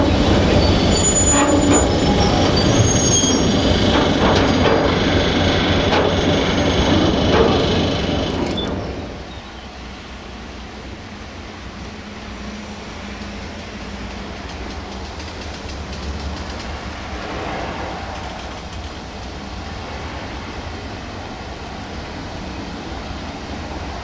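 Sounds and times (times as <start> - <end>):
diesel train engine hum: 0.0 - 24.0
train rushing noise: 0.0 - 24.0.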